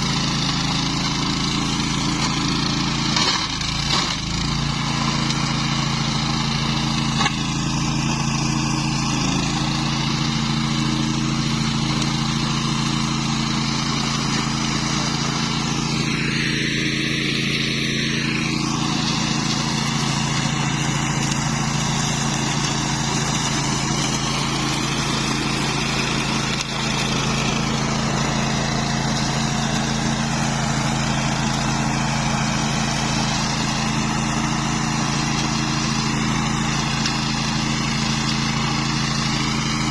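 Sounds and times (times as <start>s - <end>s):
flail mower engine running: 0.0s - 39.9s.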